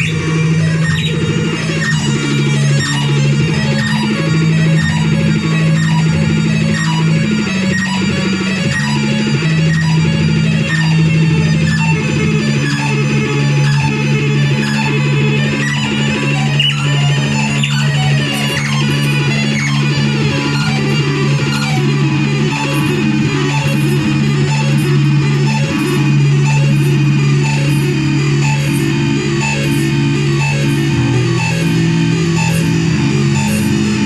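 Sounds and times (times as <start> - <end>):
shrill synthesizer tones: 0.0 - 34.0
synthesizer noise music drone: 0.0 - 34.0.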